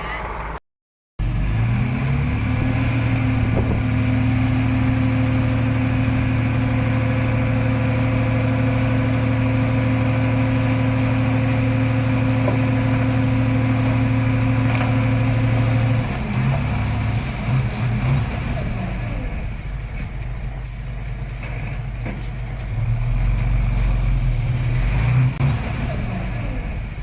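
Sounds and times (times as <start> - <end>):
diesel engine running: 1.2 - 27.0.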